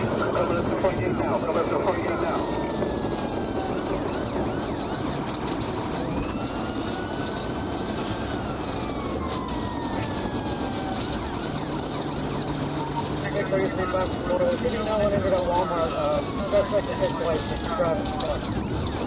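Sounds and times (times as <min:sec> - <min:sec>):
police siren wailing: 0:00.0 - 0:19.0
road and engine noise: 0:00.0 - 0:19.0.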